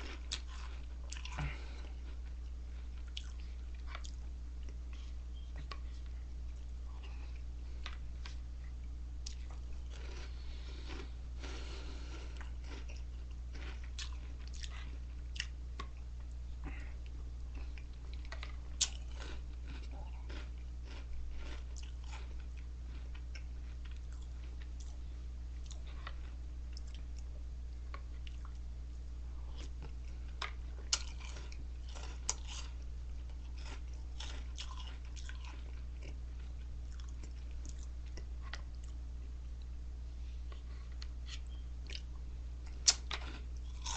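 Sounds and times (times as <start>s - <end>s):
person chewing crunchy cereal: 0.0s - 28.7s, 29.3s - 39.0s, 40.4s - 43.9s
steady low hum: 0.0s - 43.9s.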